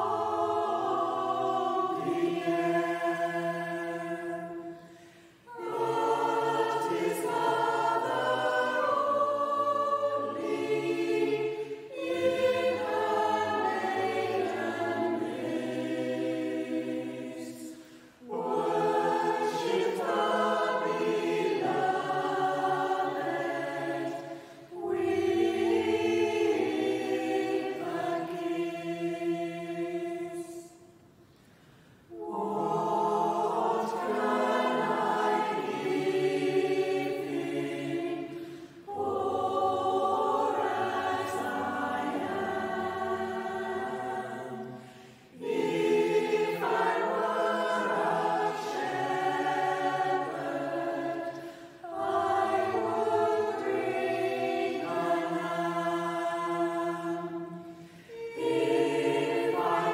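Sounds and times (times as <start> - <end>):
choir singing a carol: 0.0 - 59.9.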